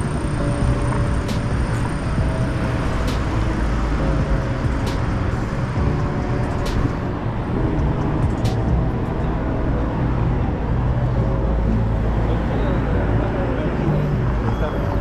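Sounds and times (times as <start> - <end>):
low rumble of passing cars: 0.0 - 15.0.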